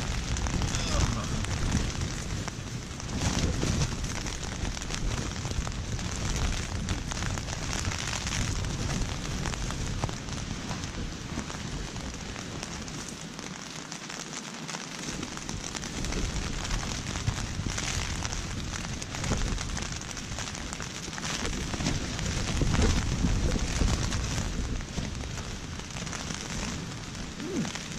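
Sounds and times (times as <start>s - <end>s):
low wind rumble: 0.0s - 13.8s, 14.9s - 27.9s
heavy rain on tent fabric: 0.0s - 27.9s.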